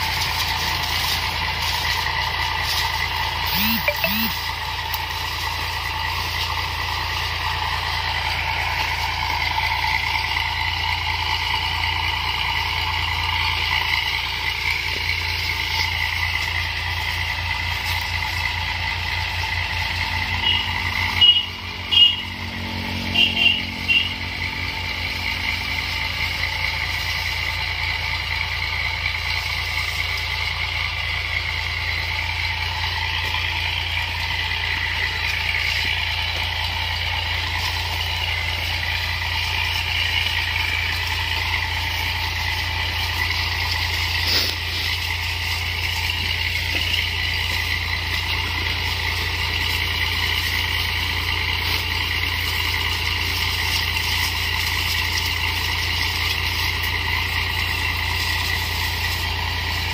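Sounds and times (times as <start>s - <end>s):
power sprayer engine running: 0.0s - 59.9s.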